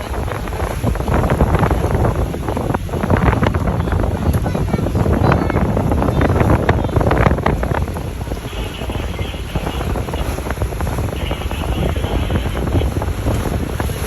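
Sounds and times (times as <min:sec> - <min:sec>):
boat and water rumble: 0:00.0 - 0:14.0
wind buffeting microphone: 0:00.0 - 0:14.0.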